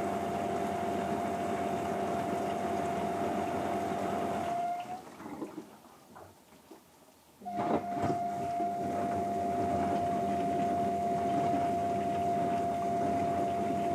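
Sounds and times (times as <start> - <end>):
dishwasher pump churning water: 0.0 - 6.4, 7.4 - 13.9.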